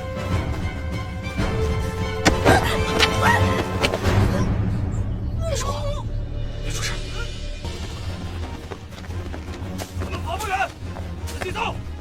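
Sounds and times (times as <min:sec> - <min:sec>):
tense drama score: 0:00.0 - 0:12.0.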